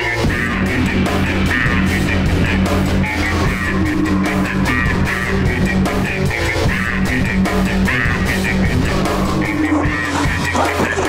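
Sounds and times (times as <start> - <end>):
instrumental guitar rock music: 0.0 - 11.0.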